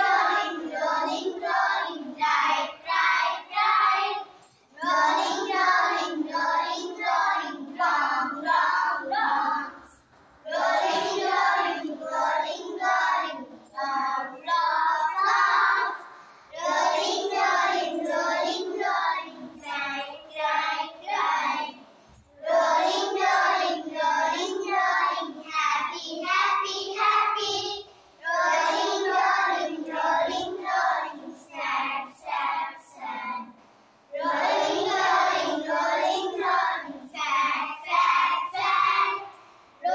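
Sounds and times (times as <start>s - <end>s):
young children singing: 0.0s - 39.9s.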